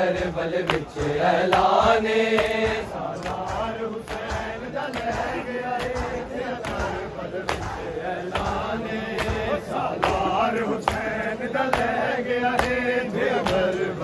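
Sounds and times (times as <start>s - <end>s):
crowd chanting: 0.0s - 14.0s
chest-beating slaps: 0.1s - 14.0s.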